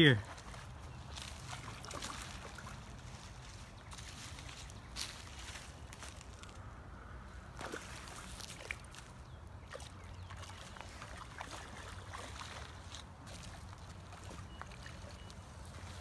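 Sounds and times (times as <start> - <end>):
fish splashing and thrashing: 0.2 - 6.6, 7.5 - 16.0.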